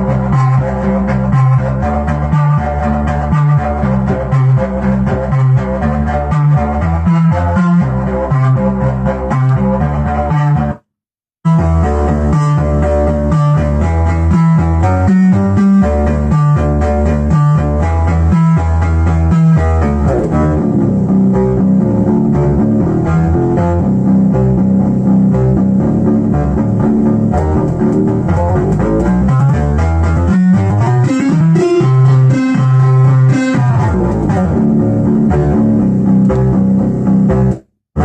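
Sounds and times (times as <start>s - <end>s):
synth bass line: 0.0s - 10.8s, 11.4s - 38.0s.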